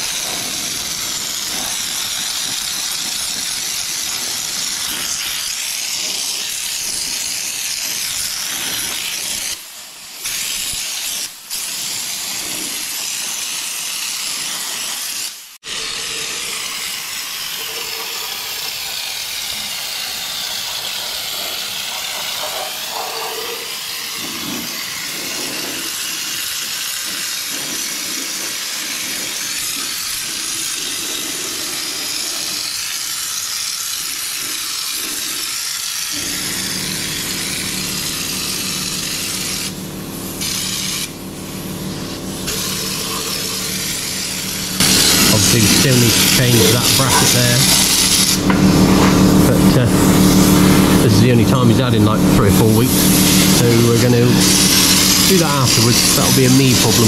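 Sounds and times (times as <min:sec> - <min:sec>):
spray gun hissing: 0:00.0 - 0:57.0.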